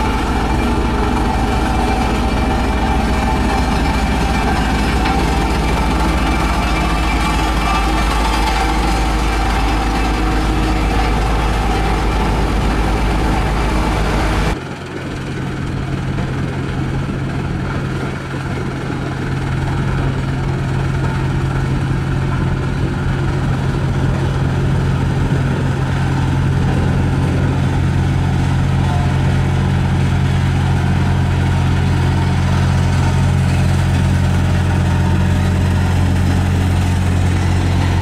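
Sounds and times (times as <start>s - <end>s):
road roller diesel engine running: 0.0s - 38.0s
roller driving over gravel: 0.0s - 38.0s.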